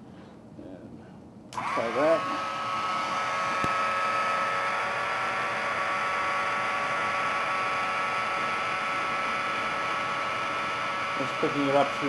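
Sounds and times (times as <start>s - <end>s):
vacuum fan motor whining: 1.5s - 12.0s.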